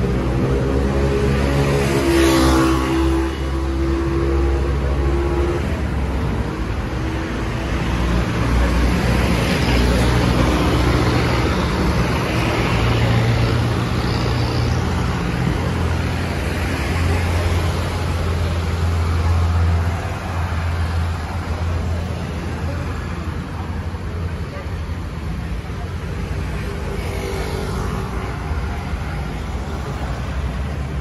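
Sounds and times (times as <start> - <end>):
cars driving by: 0.0 - 31.0.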